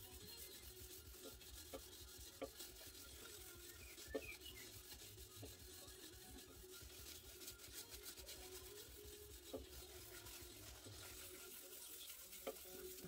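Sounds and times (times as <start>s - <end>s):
cloth pad rubbing on wood: 0.0s - 13.0s.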